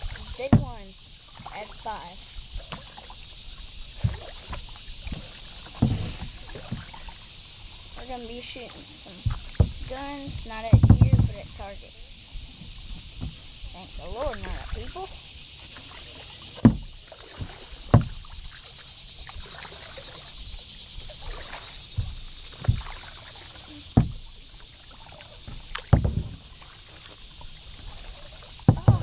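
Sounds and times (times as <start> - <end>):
kayak paddle knocking and splashing: 0.0 - 29.0
steady hiss: 0.0 - 29.0.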